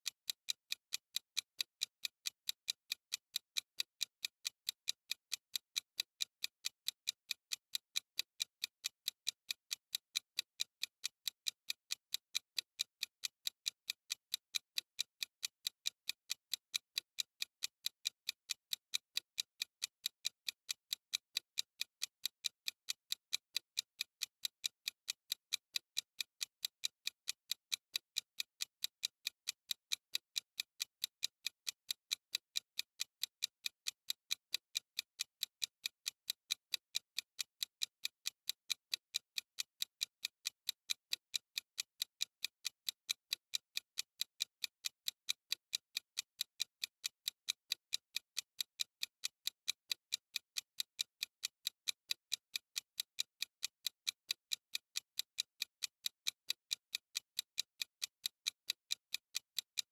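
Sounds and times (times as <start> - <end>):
timer ticking: 0.0 - 59.9.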